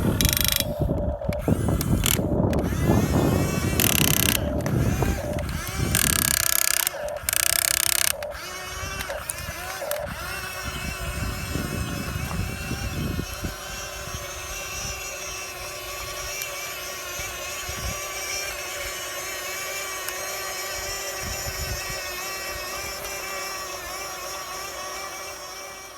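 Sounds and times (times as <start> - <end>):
small electric motor whining: 0.0 - 25.9.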